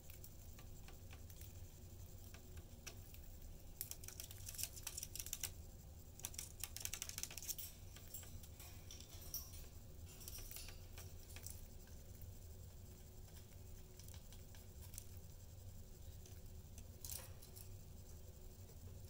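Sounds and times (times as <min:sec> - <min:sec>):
budgies clicking and scratching: 0:00.0 - 0:18.6.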